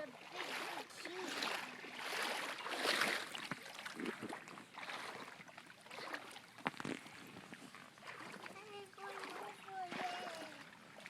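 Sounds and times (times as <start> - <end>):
water sloshing around a boat: 0.0 - 11.0.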